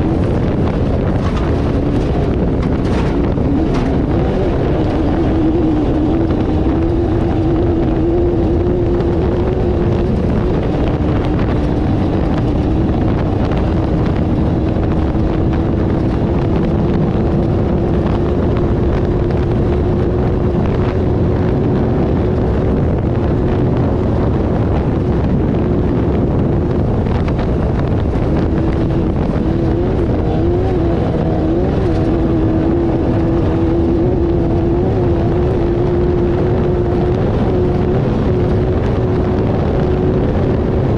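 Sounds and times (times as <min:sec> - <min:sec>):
loud rushing noise: 0:00.0 - 0:40.9
race vehicle engine running hard: 0:00.0 - 0:40.9.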